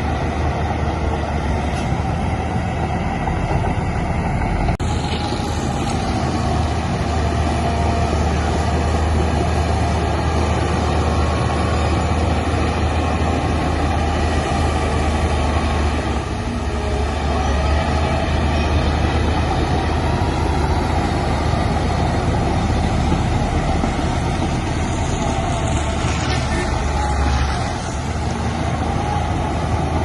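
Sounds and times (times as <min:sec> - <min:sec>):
diesel earthmoving machinery running: 0:00.0 - 0:30.0.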